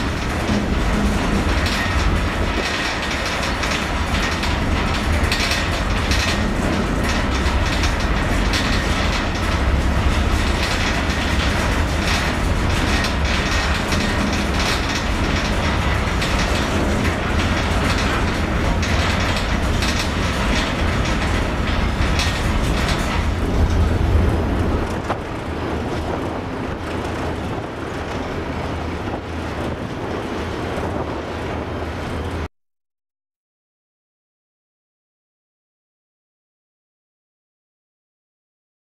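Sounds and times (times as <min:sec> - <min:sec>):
deep engine rumble: 0:00.0 - 0:32.5.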